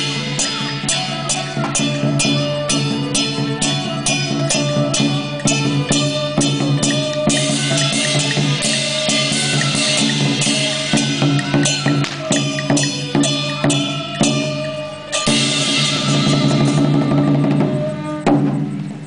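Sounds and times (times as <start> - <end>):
held melody line: 0.0 - 18.3
drums and percussion beat: 0.0 - 19.0.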